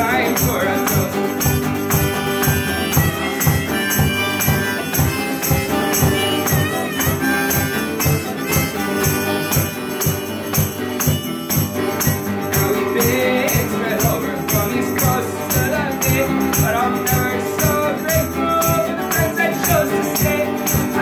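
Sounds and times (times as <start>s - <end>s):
acoustic guitar strummed: 0.0s - 21.0s
bending melody line: 0.0s - 21.0s.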